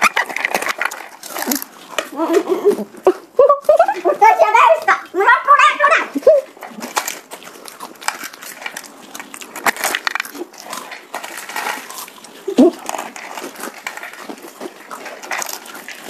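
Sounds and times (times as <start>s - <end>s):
crunching crisp snacks: 0.0s - 16.0s.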